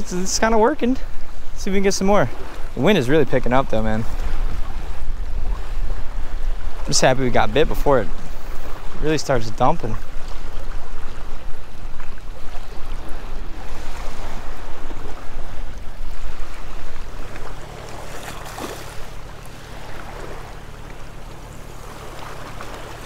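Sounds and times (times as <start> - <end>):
waves washing against rocks: 0.0 - 23.0
wind buffeting microphone: 0.0 - 23.0.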